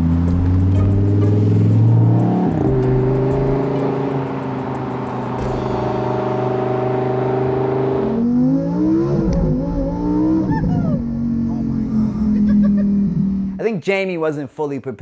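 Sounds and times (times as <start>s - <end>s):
sports car engine accelerating: 0.0s - 13.6s.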